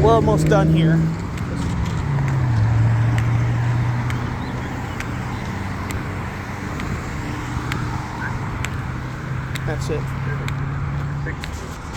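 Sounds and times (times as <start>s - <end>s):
tyre and road noise: 0.0s - 11.9s
vehicle engine humming: 0.0s - 11.9s.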